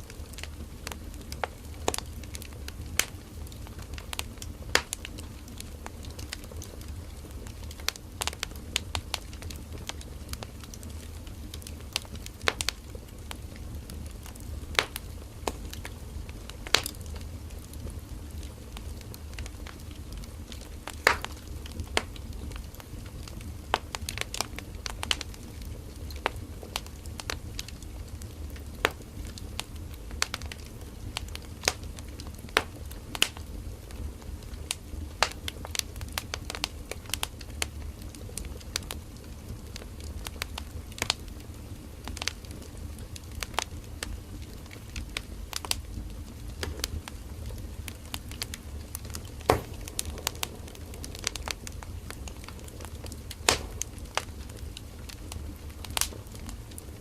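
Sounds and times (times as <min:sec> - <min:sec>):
burning wood crackling: 0:00.0 - 0:57.0
low rumble of flames: 0:00.0 - 0:57.0.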